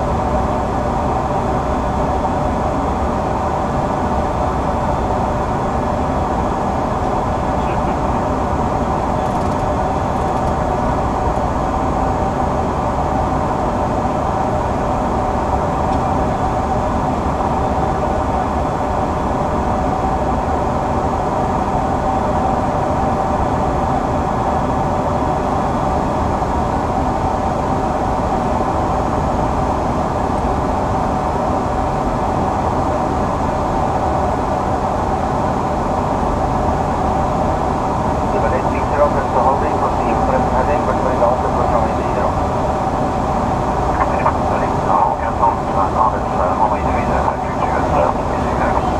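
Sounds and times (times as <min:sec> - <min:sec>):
constant hum: 0:00.0 - 0:48.9.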